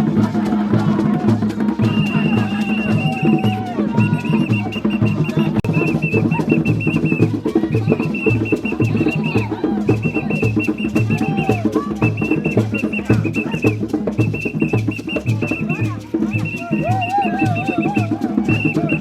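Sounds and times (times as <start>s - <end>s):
drum ensemble fast rhythm: 0.0s - 19.0s.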